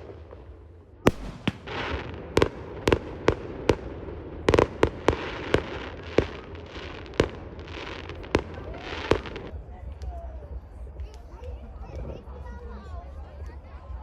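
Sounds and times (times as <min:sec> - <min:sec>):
crackling hiss of fireworks: 0:00.0 - 0:14.0.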